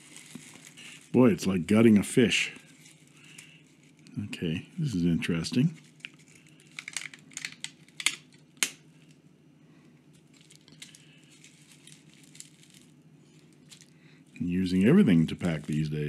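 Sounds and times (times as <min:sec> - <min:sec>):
packaging crinkling and crackling: 0:00.0 - 0:04.5, 0:05.1 - 0:09.2, 0:10.0 - 0:16.0
low steady hum: 0:00.0 - 0:16.0.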